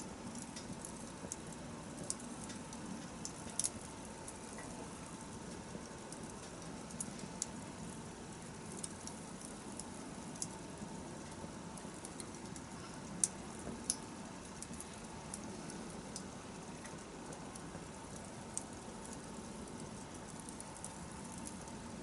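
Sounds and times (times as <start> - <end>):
campfire flames rushing: 0.0 - 22.0
fire crackling and popping: 0.0 - 22.0.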